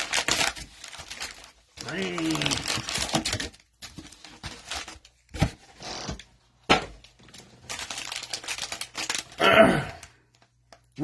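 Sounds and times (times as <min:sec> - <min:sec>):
cellophane wrappers crinkling and tearing: 0:00.0 - 0:06.2, 0:07.0 - 0:11.0.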